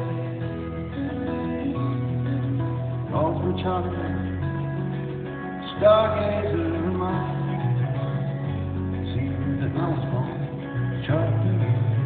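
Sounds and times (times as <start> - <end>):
live band with guitar: 0.0 - 12.0
man singing: 0.0 - 12.0.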